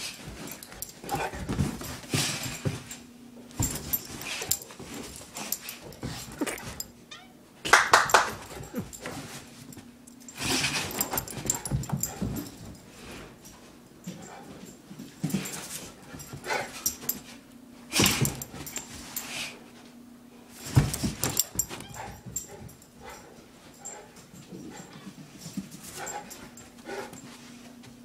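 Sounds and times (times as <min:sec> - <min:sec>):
dog playing boisterously: 0:00.0 - 0:07.0, 0:08.0 - 0:28.0.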